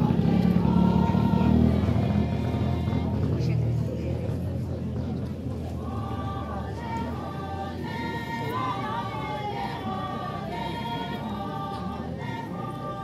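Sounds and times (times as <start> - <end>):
women singing together: 0.0 - 3.6, 5.6 - 13.0.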